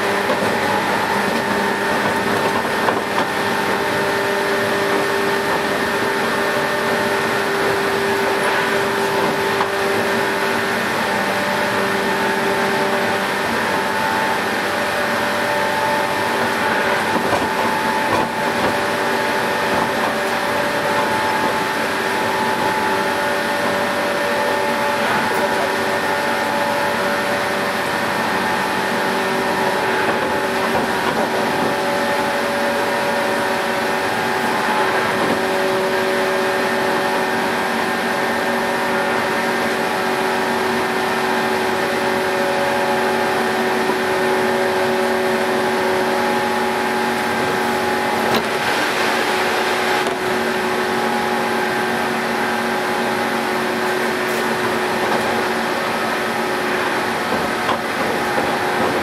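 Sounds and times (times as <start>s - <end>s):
electric train motor whine: 0.0s - 59.0s
train running noise: 0.0s - 59.0s.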